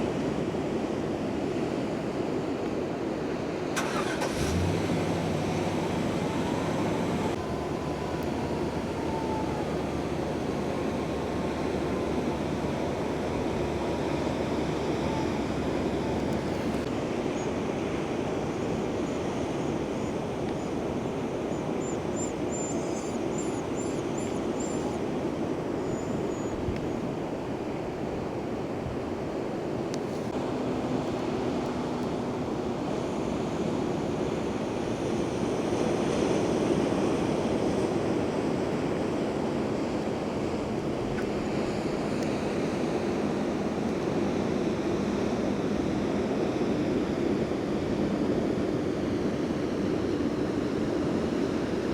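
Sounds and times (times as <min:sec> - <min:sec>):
ocean surf roaring: 0:00.0 - 0:26.0, 0:27.0 - 0:51.9.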